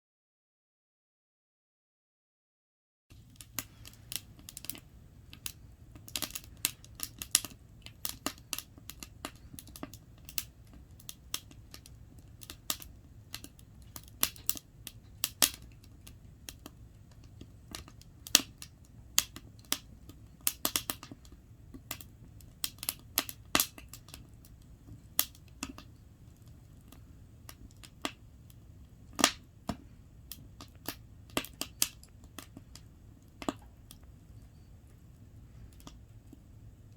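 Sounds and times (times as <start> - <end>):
low rumble of flames: 3.1 - 36.9
wood fire crackling and popping: 3.1 - 36.9.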